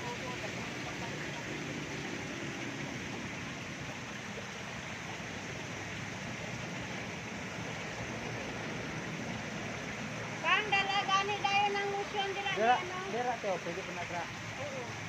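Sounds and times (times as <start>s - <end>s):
flowing creek water: 0.0s - 15.0s.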